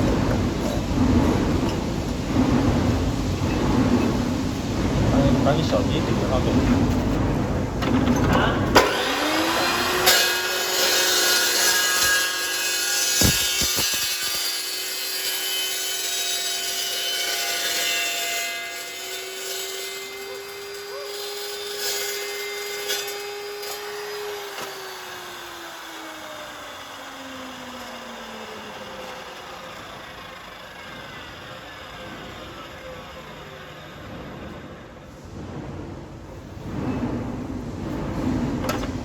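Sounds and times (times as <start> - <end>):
circular saw whining: 0.0 - 35.1.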